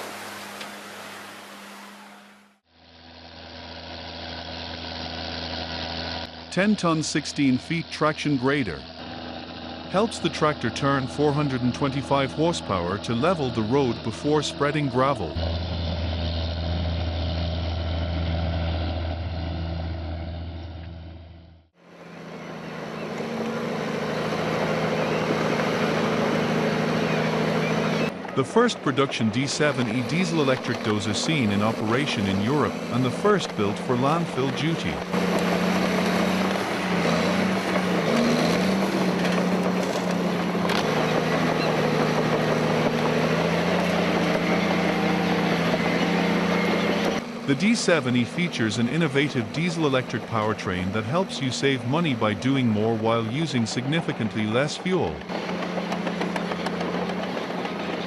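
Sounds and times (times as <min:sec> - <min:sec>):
diesel earthmoving machine running: 0:00.0 - 0:58.0
machine engine running: 0:00.0 - 0:58.0.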